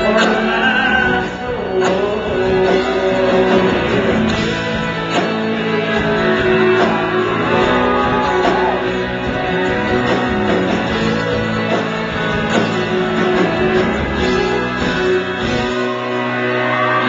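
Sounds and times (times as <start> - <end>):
guitar: 0.0 - 17.0
live country band playing: 0.0 - 17.0.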